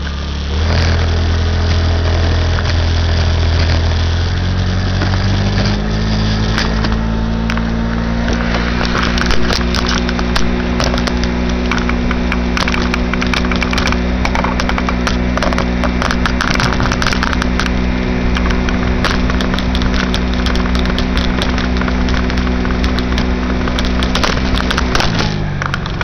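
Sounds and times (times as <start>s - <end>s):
moped engine hum: 0.0s - 26.0s
rushing noise: 4.4s - 26.0s
scattered clicks: 4.9s - 26.0s.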